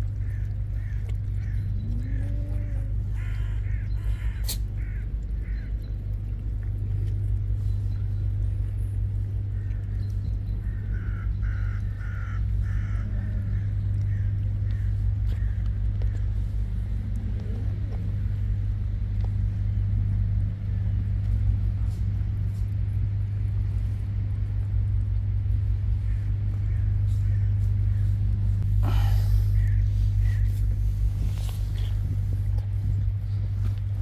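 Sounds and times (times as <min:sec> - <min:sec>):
low motor drone: 0:00.0 - 0:34.0.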